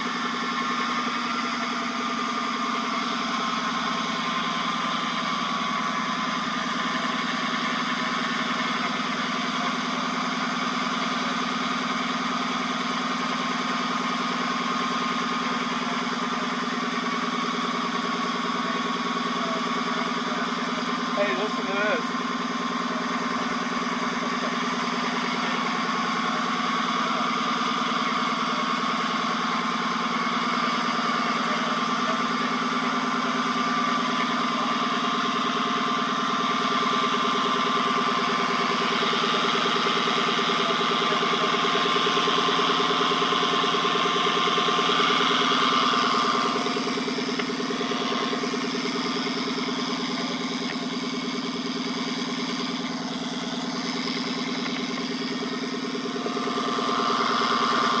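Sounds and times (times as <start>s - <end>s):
car engine running: 0.0s - 58.0s
drivetrain whine: 0.0s - 58.0s.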